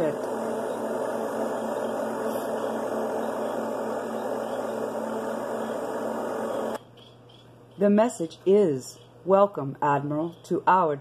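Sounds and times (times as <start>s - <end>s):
steady hum with hiss: 0.0s - 11.0s.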